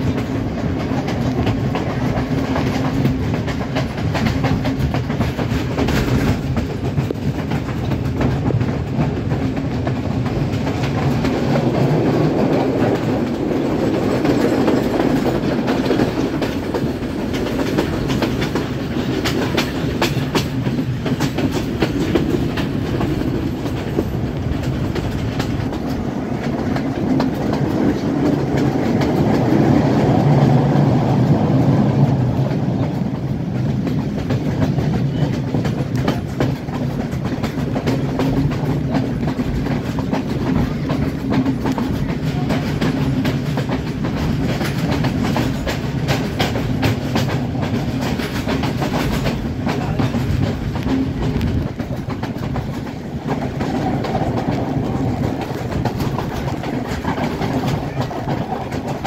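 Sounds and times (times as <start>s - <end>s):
rail joint clicks: 0.0s - 59.0s
train wheels rumbling on rails: 0.0s - 59.0s.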